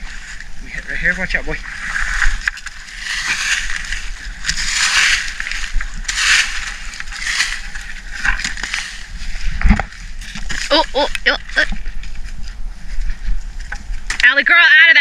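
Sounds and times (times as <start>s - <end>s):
hoe scraping soil and leaves: 0.0s - 14.2s.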